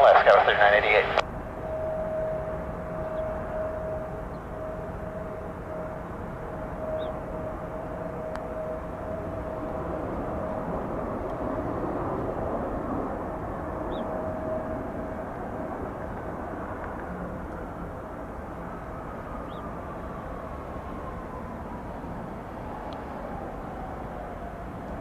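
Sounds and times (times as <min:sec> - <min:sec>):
jet engines droning: 0:00.0 - 0:25.0.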